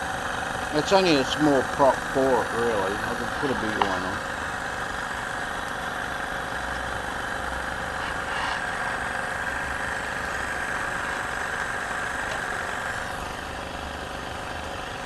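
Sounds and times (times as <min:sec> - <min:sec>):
steam engine chuffing hiss: 0:00.0 - 0:13.6.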